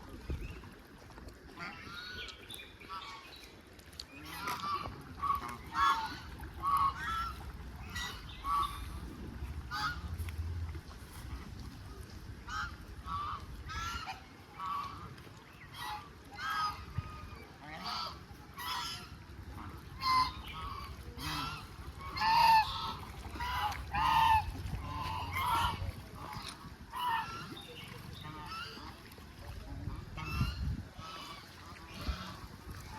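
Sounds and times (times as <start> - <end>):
waterfowl honking calls: 4.2 - 10.2, 12.4 - 32.9.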